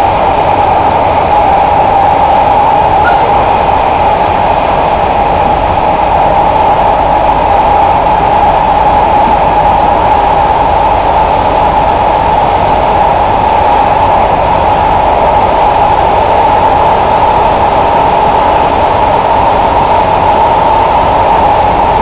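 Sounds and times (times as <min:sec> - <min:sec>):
steady high hum: 0:00.0 - 0:22.0
train rolling noise inside carriage: 0:00.0 - 0:22.0.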